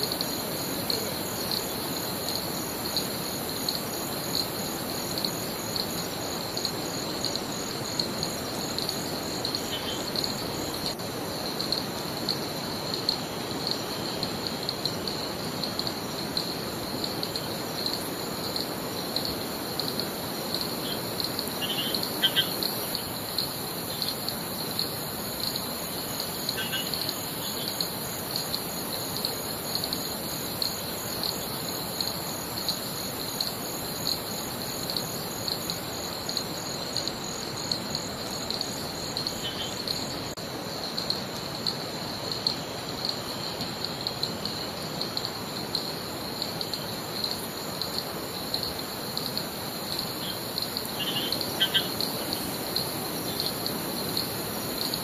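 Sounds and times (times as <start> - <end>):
higher faster pulsing insect call: 0.0 - 55.0
insects pulsing trill: 0.0 - 55.0.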